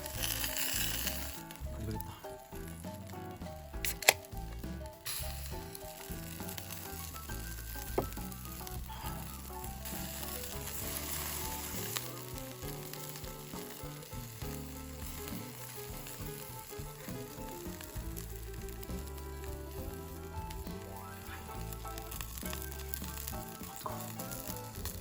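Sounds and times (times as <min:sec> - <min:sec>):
background music: 0:00.0 - 0:25.0
skewers sizzling over fire: 0:00.0 - 0:25.0.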